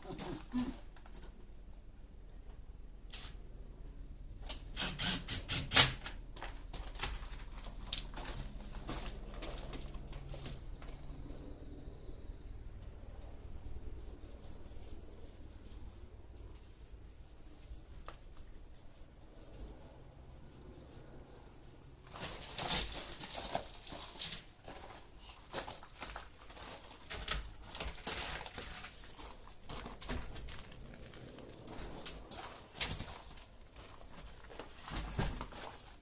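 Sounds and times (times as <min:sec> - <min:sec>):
low steady hum: 0:06.2 - 0:35.5.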